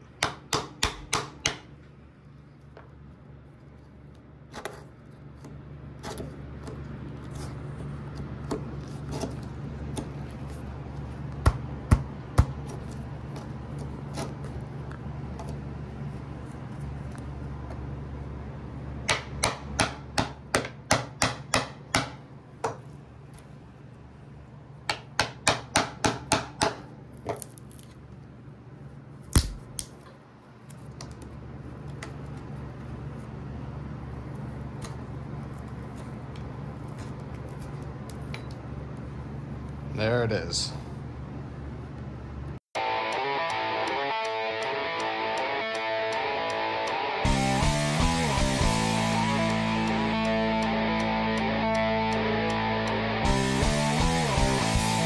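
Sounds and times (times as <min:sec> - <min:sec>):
steady low hum: 0:00.0 - 0:25.2, 0:26.6 - 0:55.0.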